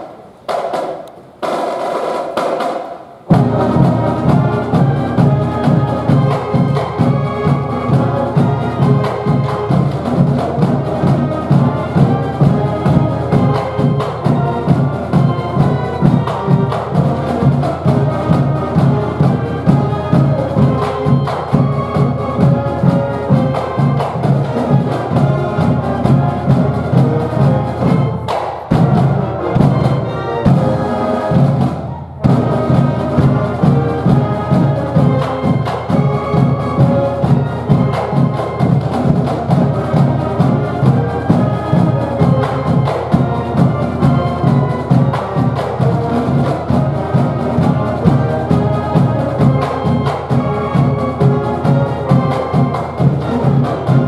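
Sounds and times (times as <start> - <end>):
music with steady drum beat: 0.0 - 54.0.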